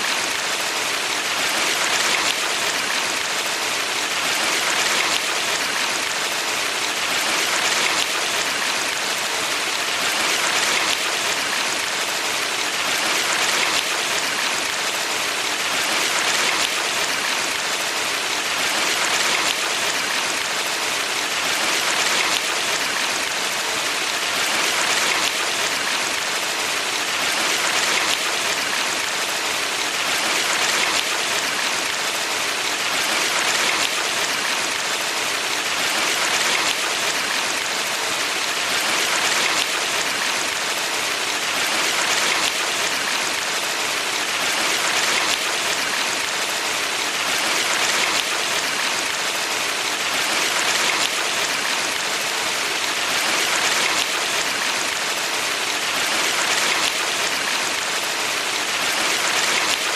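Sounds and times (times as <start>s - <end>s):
stream water rushing and splashing: 0.0s - 59.9s.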